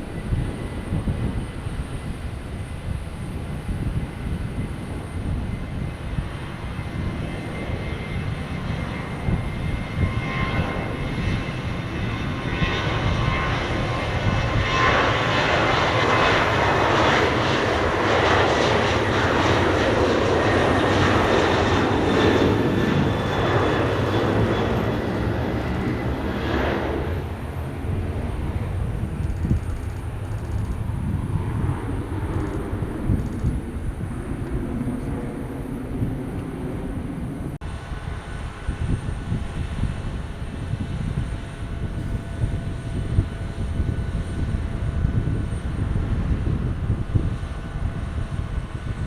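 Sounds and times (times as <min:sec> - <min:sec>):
jet airliner passing: 0:00.0 - 0:49.0.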